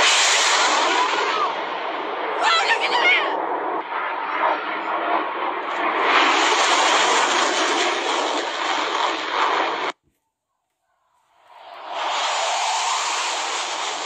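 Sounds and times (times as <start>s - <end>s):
fighter jet low pass: 0.0s - 10.0s, 11.3s - 14.0s.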